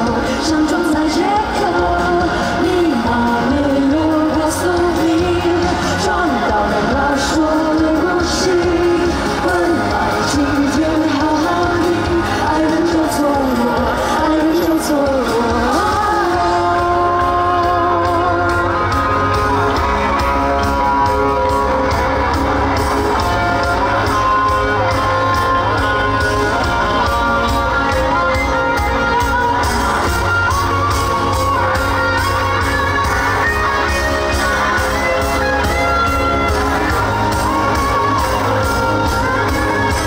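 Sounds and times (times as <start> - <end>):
live band with drums and bass: 0.0 - 40.0
person singing: 0.0 - 40.0.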